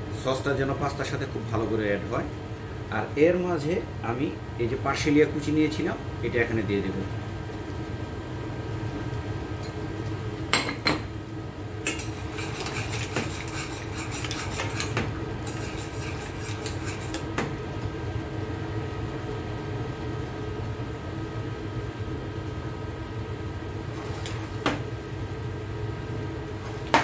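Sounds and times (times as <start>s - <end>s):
background hum: 2.3s - 27.0s.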